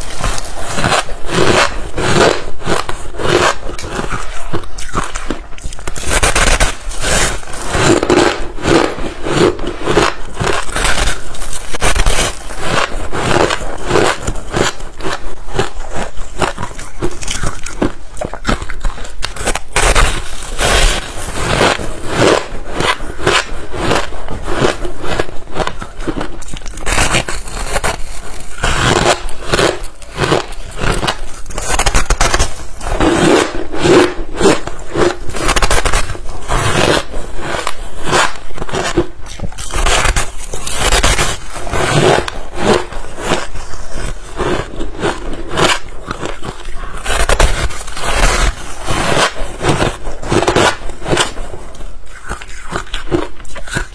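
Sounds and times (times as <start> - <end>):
ice being chewed: 0.0 - 53.9.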